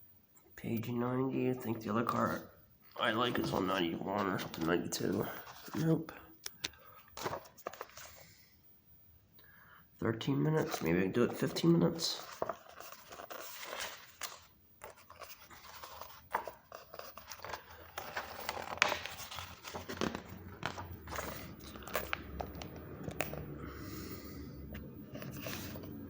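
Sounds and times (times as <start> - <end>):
book pages rustling: 2.0 - 8.4, 10.5 - 26.0.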